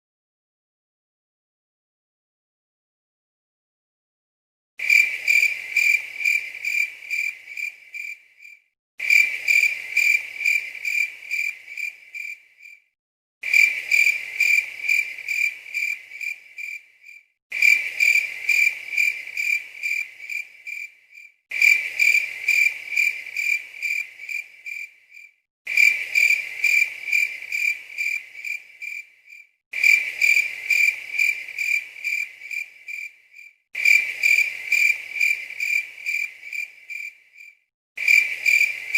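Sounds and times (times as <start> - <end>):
cricket chirping: 4.8 - 38.9.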